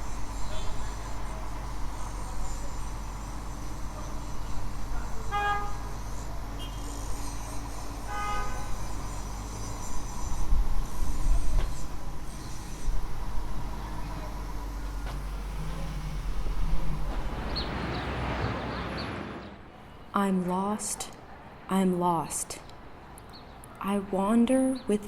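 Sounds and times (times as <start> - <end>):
city traffic rumble: 0.0 - 25.0.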